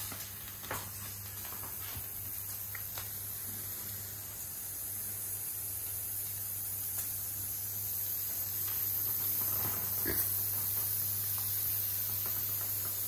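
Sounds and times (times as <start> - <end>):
moka pot hissing: 0.0 - 13.0.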